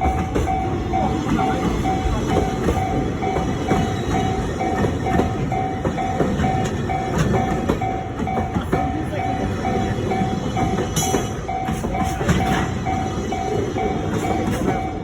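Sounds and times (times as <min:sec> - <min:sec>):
freight train rumbling past: 0:00.0 - 0:15.0
level-crossing warning bell: 0:00.0 - 0:15.0
train wheels clacking: 0:00.0 - 0:15.0.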